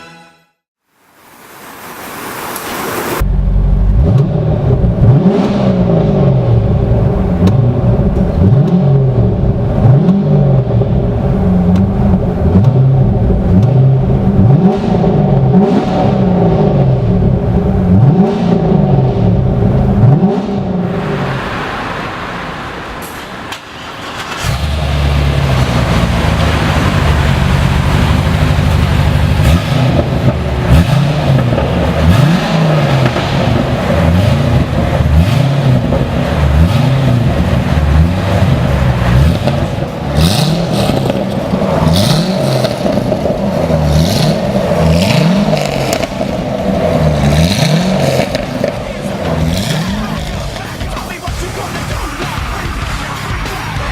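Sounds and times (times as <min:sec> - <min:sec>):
sports car engine revving: 0:03.2 - 0:22.5, 0:24.1 - 0:53.9.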